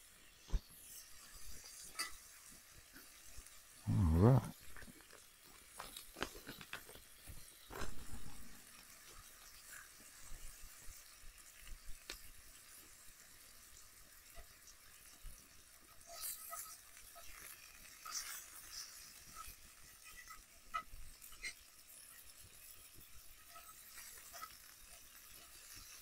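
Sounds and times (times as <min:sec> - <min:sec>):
bacon sizzling in a skillet: 0:00.0 - 0:26.0.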